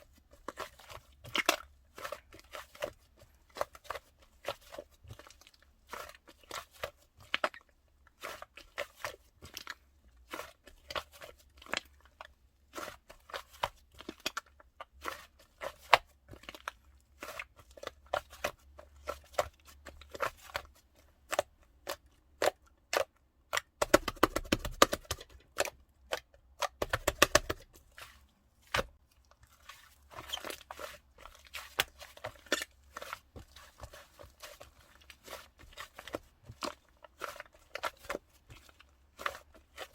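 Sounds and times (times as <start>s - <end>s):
crunching and crackling: 0.1s - 39.9s.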